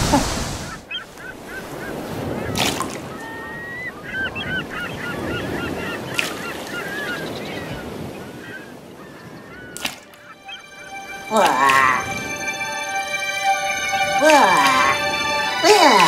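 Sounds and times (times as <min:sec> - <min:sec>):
flock of birds calling: 0:00.5 - 0:16.0.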